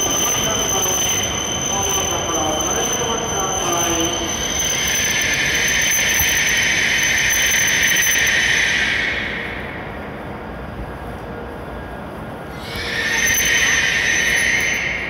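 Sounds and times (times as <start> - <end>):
train brakes whining: 0.0 - 10.3, 12.5 - 15.0.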